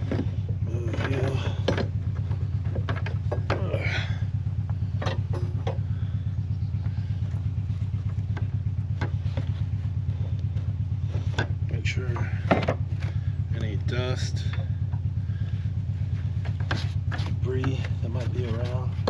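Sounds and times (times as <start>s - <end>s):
pulsing machine hum: 0.0s - 19.0s.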